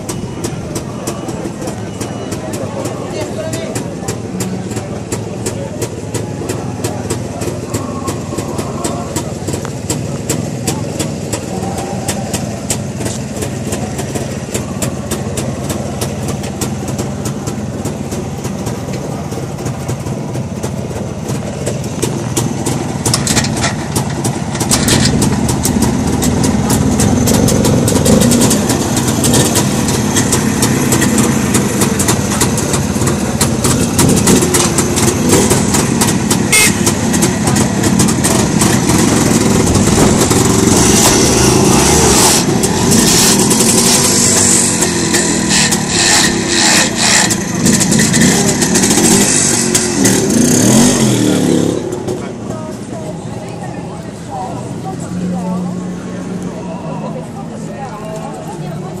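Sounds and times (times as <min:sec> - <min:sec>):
motorcycle engines idling: 0:00.0 - 0:59.0.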